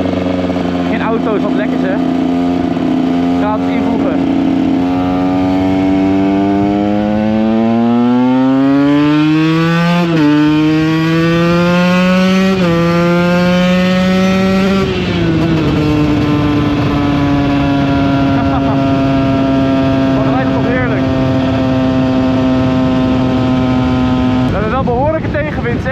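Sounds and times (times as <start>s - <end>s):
dirt bike engine accelerating: 0.0s - 25.9s.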